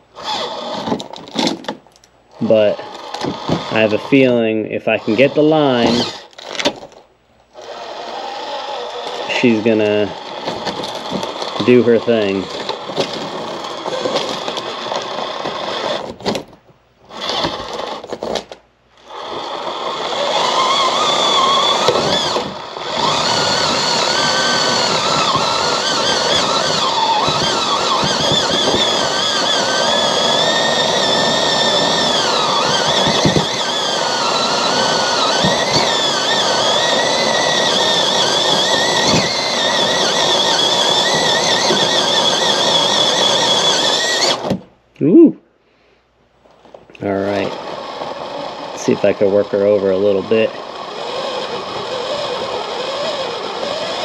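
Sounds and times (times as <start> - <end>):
small electric motor whining: 0.0 - 1.6, 2.3 - 16.4, 17.1 - 44.6, 46.5 - 54.0.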